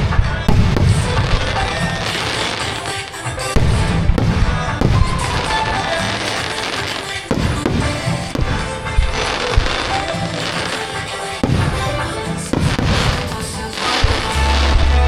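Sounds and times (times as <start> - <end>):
fireworks shells bursting: 0.0 - 15.0
recorded music: 0.0 - 15.0.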